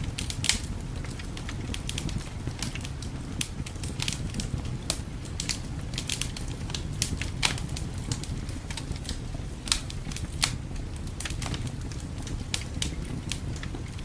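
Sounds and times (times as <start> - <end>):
fire pops: 0.0 - 14.0
wood fire crackling: 0.0 - 14.0.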